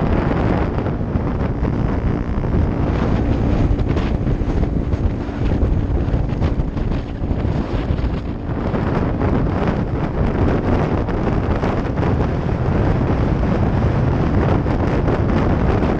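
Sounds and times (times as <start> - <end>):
small motorcycle engine running: 0.0 - 15.9
wind rushing over microphone: 0.0 - 15.9.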